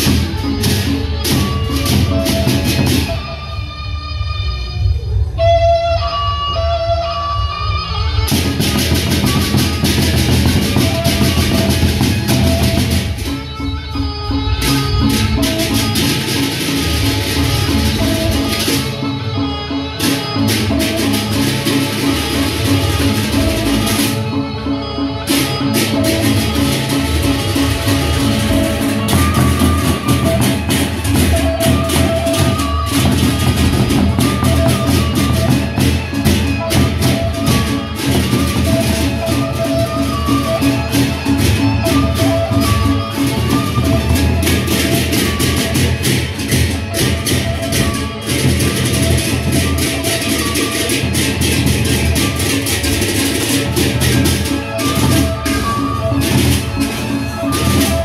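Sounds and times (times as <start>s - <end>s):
barrel drums beating: 0.0s - 3.4s, 8.2s - 24.4s, 25.2s - 58.0s
small gongs fast rhythm: 0.0s - 3.5s, 8.2s - 58.0s.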